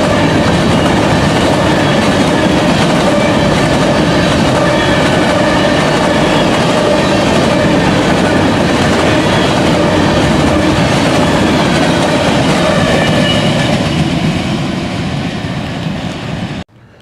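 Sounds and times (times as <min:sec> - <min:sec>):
freight train wheel-on-rail noise: 0:00.0 - 0:17.0.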